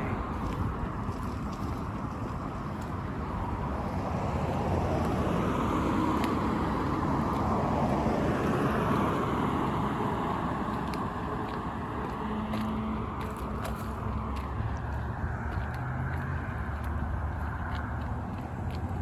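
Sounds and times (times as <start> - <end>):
car passing on street: 0.0 - 19.0.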